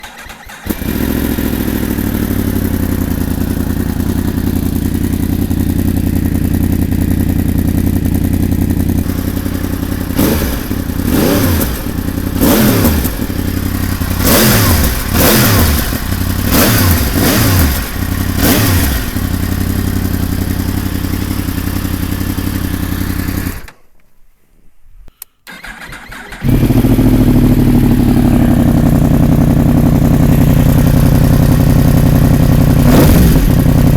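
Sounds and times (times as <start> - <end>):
motorcycle engine idling: 0.0 - 23.7, 26.4 - 33.9
motorcycle throttle blips: 0.0 - 23.8, 25.1 - 33.9.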